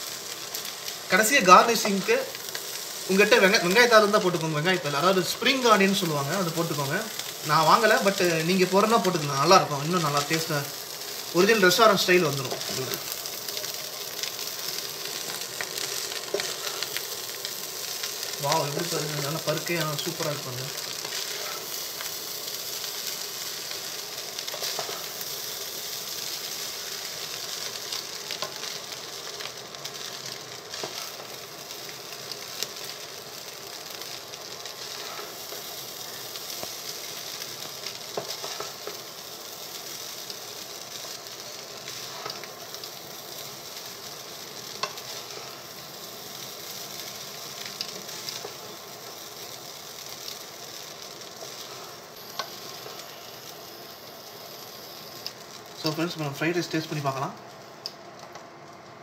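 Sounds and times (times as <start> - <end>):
rice sizzling in a pot: 0.0 - 59.0.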